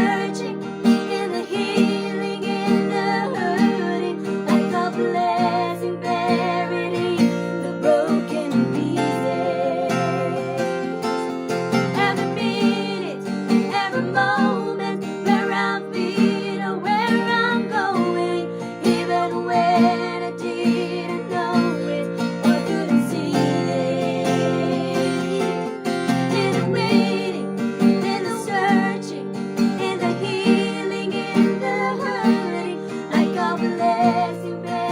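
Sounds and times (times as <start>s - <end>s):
wavering melody with vibrato: 0.0s - 29.1s
strummed acoustic guitar: 0.0s - 34.9s.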